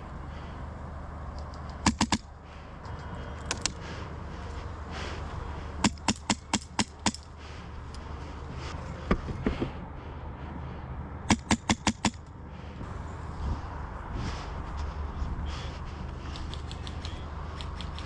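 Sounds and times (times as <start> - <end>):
steady low rumble: 0.0 - 17.6.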